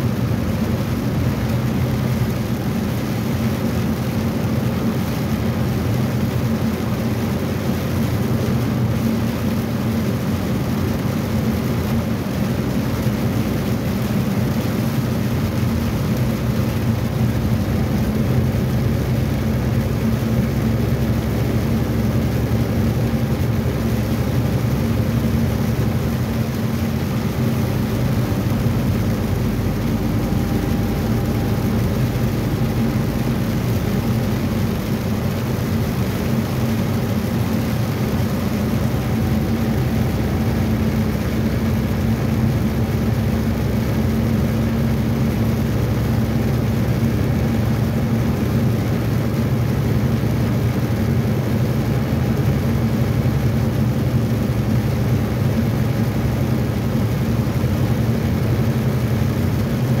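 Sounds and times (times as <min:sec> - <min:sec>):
road and tyre noise: 0:00.0 - 1:00.0
truck engine droning: 0:00.0 - 1:00.0.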